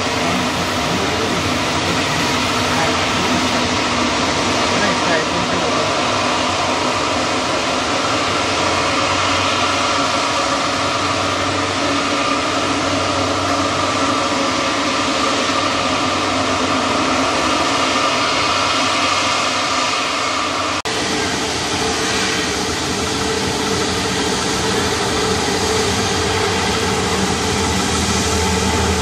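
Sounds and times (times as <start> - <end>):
constant whining tones: 0.0 - 29.0
jet engines rushing: 0.0 - 29.0.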